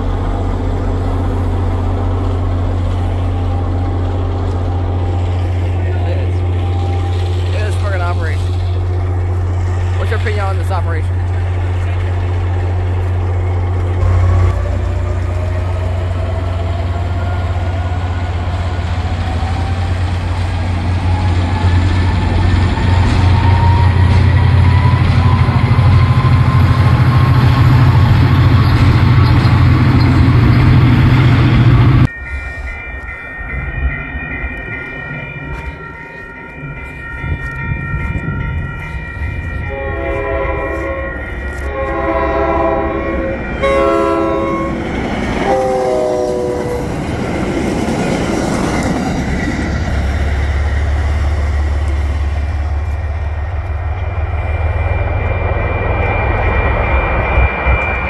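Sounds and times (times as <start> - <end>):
diesel locomotive engine rumble: 0.0 - 58.0
railroad crossing bell ringing: 0.0 - 58.0.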